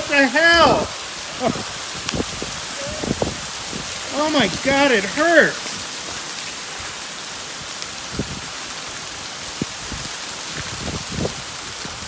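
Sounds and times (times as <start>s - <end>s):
hail pattering: 0.0s - 12.0s
hailstones knocking close by: 0.0s - 12.0s.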